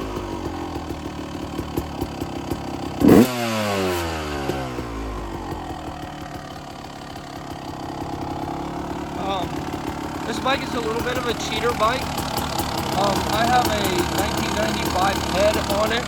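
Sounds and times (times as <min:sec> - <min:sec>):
two-stroke motocross engine idling: 0:00.0 - 0:16.0.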